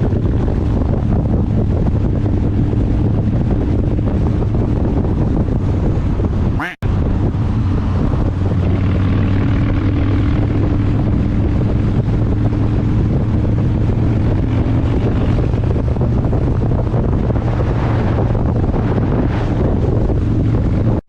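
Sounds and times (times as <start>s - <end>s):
motorcycle engine droning: 0.0s - 21.0s
wind on microphone: 0.0s - 21.0s.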